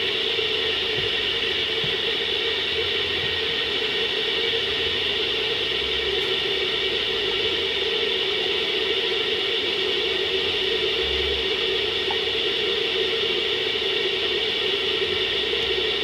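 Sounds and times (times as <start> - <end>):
gas burner flame: 0.0 - 16.0
soup boiling in a pot: 0.0 - 16.0.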